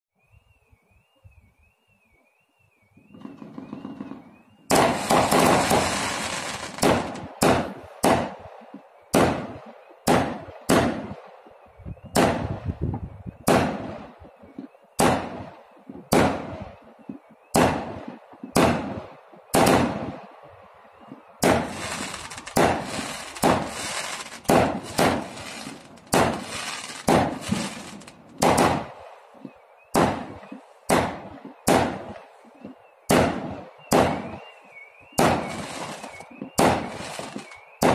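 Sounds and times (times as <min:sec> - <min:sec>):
fireworks bursting with loud bangs: 0:03.0 - 0:11.4, 0:12.0 - 0:20.3, 0:21.4 - 0:29.2, 0:29.9 - 0:37.9.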